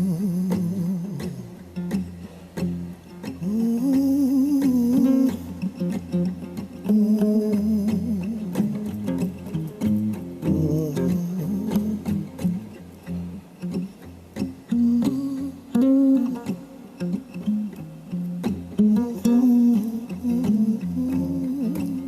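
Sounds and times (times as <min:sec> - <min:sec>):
plucked guitar notes: 0:00.0 - 0:22.0.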